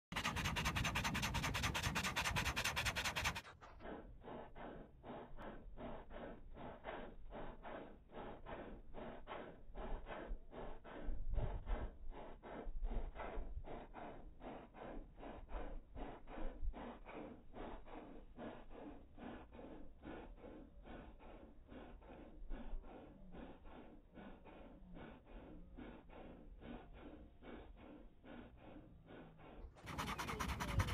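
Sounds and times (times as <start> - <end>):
dog panting: 0.1 - 30.9.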